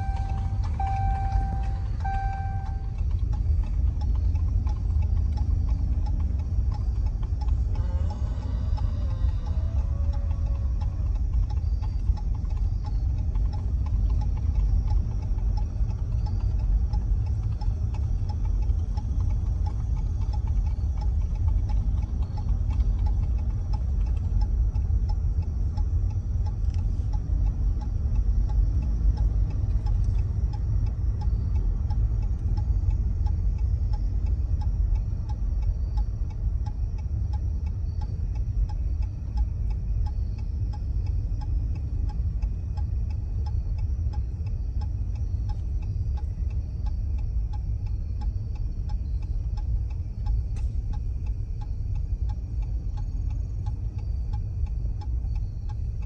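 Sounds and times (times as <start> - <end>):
car rolling rumble from inside: 0.0 - 56.0
light even ticking: 0.0 - 56.0.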